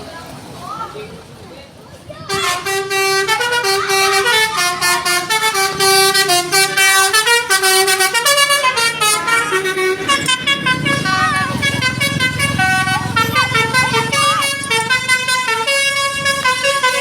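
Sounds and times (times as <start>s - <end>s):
bus melody horn: 2.3s - 17.0s.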